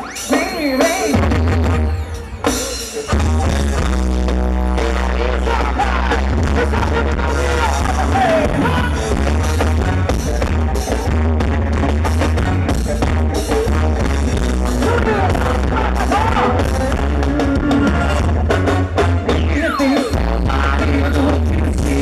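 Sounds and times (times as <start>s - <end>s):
live band playing pop song: 0.0s - 22.0s
heavy bass: 1.1s - 2.4s, 3.0s - 22.0s.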